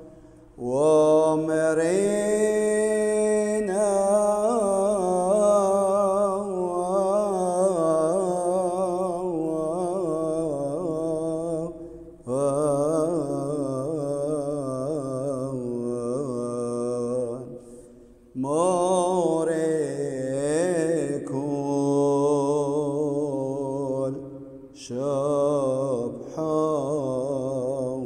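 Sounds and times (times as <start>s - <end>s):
person singing a chant: 0.0s - 28.0s.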